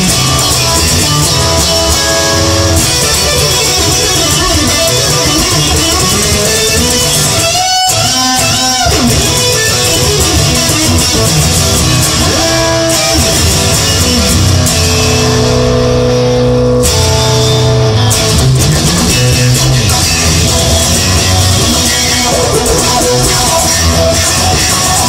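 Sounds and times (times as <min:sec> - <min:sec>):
guitar-led rock song: 0:00.0 - 0:25.0.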